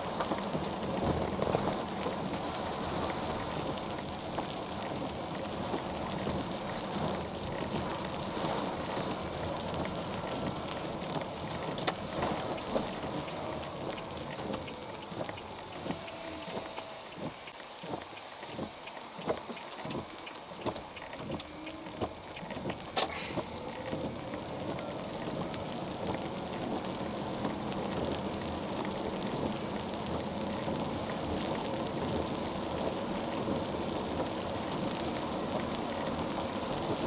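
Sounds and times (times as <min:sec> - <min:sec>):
road and tyre noise: 0:00.0 - 0:37.0.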